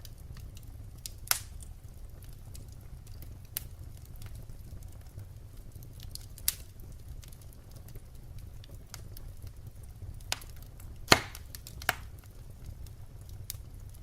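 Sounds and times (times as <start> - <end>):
fire rumbling: 0.0 - 14.0
firewood crackles and pops: 0.0 - 14.0.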